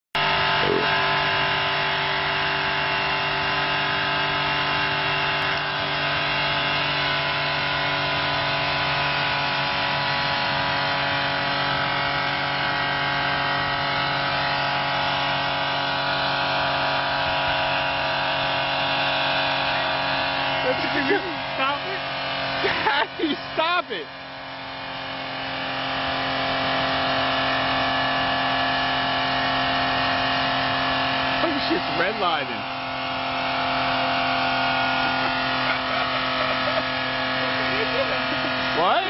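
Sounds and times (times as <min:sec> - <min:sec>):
car engine revving high: 0:00.2 - 0:39.0.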